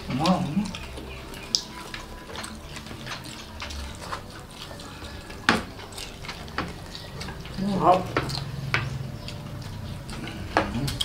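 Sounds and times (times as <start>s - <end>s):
lip smacking: 0.0s - 11.0s
people chewing: 0.0s - 11.0s
wet mouth clicks: 0.0s - 11.0s.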